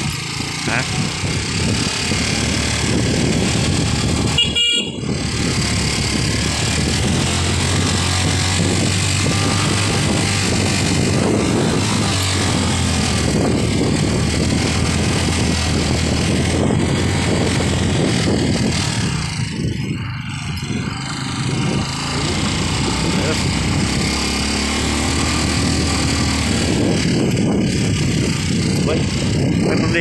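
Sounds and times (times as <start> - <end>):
small motorcycle engine riding: 0.0 - 30.0.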